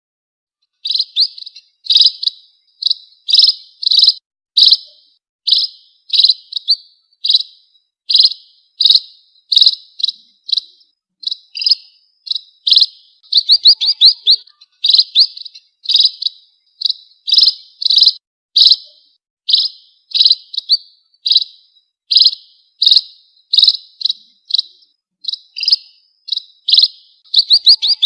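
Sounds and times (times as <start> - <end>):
finch chirping: 0.8 - 28.0.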